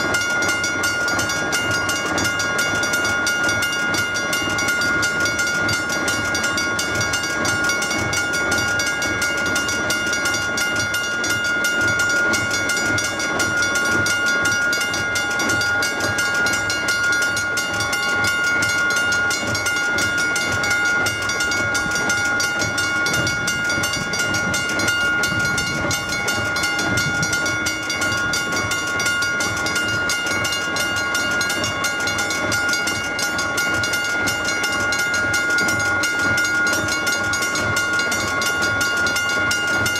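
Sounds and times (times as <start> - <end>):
level crossing warning bell ringing: 0.0 - 39.9.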